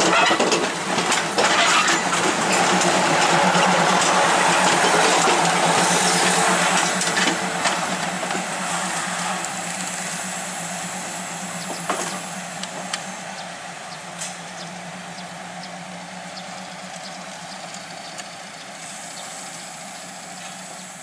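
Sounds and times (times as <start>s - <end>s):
diesel train rumbling on rails: 0.0s - 21.0s.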